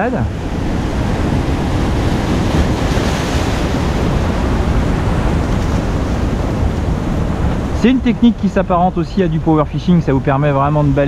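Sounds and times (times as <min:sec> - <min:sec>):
surf washing over rocks: 0:00.0 - 0:11.0
wind buffeting microphone: 0:00.0 - 0:11.0.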